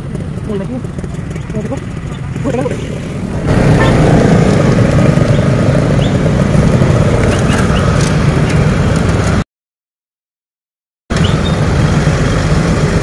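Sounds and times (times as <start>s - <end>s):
motorcycle engines running: 0.0s - 9.4s, 11.1s - 13.0s
traffic: 0.0s - 9.4s, 11.1s - 13.0s.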